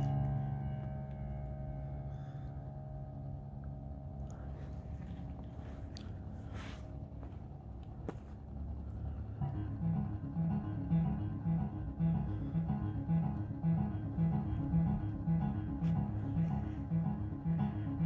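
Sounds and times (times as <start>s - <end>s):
low steady rumble: 0.0s - 18.0s
music: 0.0s - 18.0s.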